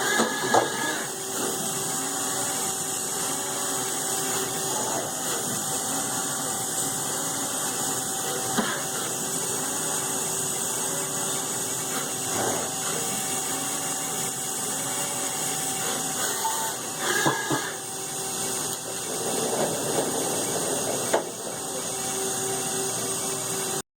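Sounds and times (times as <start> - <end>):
milling machine cutting plastic: 0.0 - 23.8.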